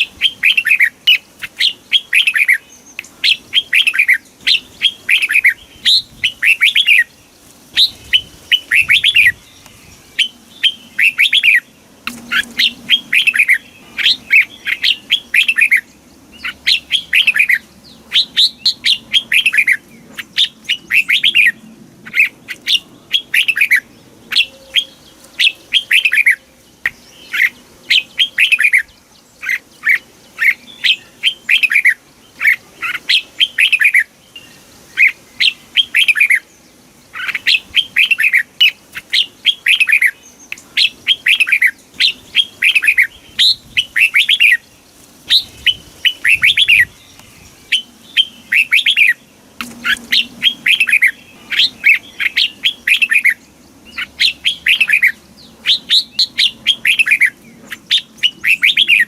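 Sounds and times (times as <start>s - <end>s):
bird singing whistled notes: 0.0s - 7.2s, 7.8s - 59.0s.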